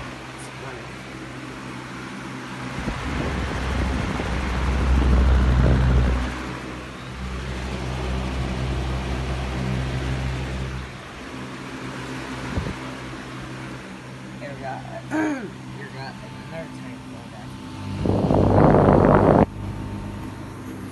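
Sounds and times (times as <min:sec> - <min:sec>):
air buffeting microphone: 0:00.0 - 0:20.9
electric fan motor hum: 0:00.0 - 0:20.9.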